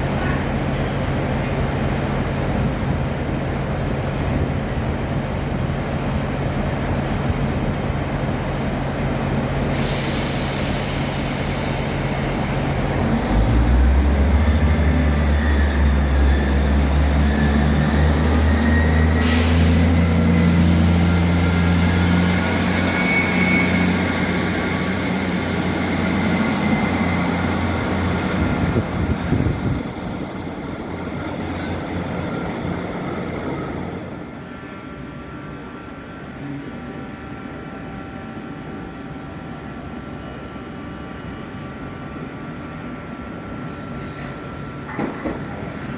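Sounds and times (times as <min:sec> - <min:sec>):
rushing rail noise: 0:00.0 - 0:45.9
train low drone: 0:00.0 - 0:45.9.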